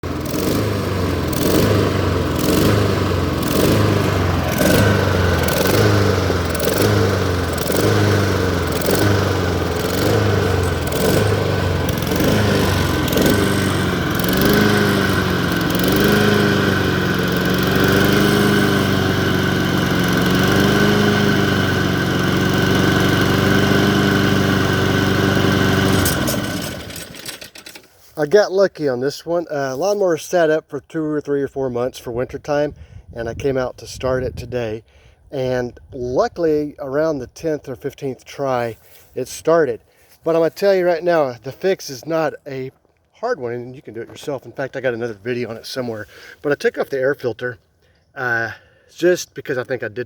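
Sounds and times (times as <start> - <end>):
lawn mower engine surging: 0.0 - 28.3, 38.2 - 50.0.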